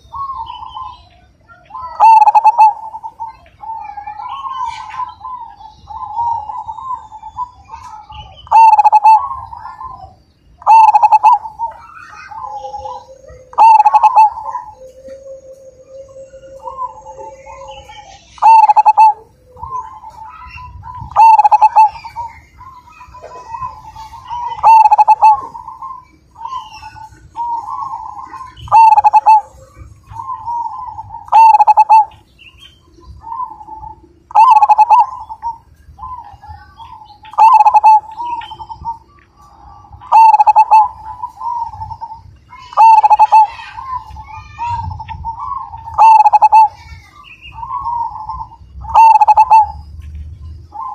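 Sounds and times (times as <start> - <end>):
dove cooing: 0.0 - 50.0.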